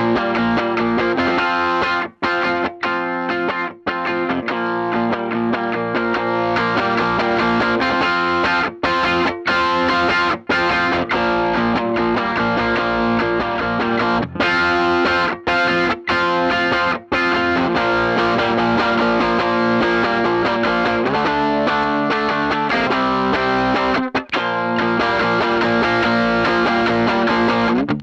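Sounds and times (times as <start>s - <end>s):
distorted electric guitar chords: 0.0s - 28.0s.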